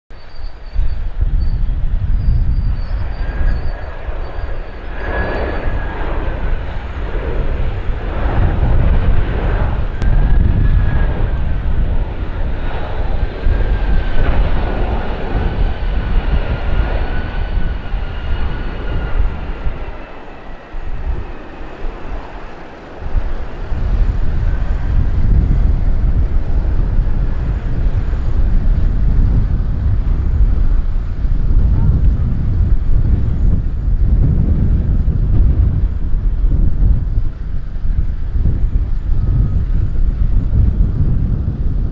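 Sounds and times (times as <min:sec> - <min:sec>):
jet engines rumbling with whine: 0:00.1 - 0:41.9.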